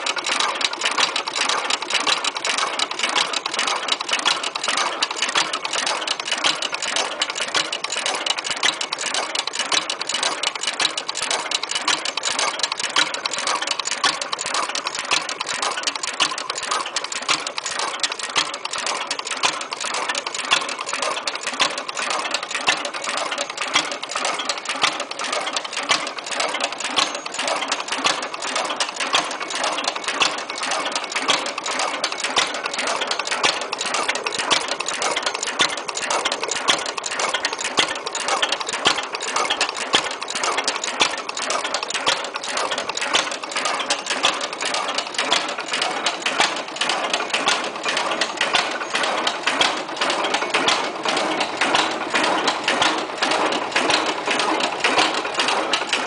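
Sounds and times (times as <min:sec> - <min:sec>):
engine mechanical clatter: 0:00.0 - 0:56.0.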